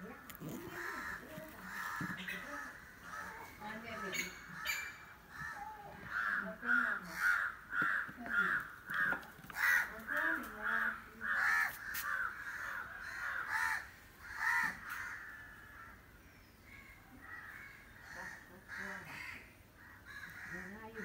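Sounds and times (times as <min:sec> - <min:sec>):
bird calling: 0:00.0 - 0:21.0.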